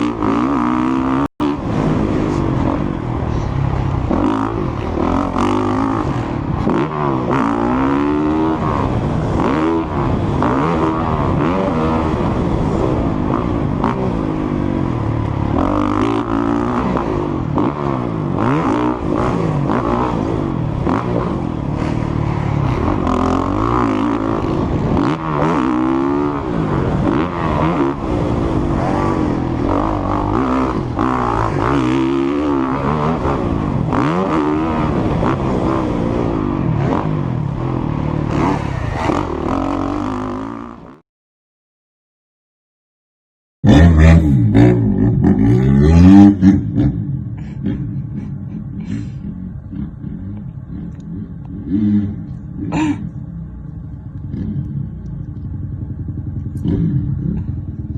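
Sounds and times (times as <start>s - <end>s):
motocross bike engine revving: 0.0s - 41.0s, 43.6s - 53.2s, 54.2s - 57.9s.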